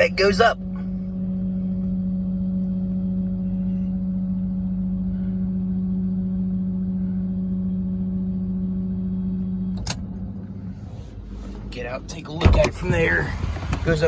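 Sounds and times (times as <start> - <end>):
hydraulic pump humming: 0.0 - 14.0.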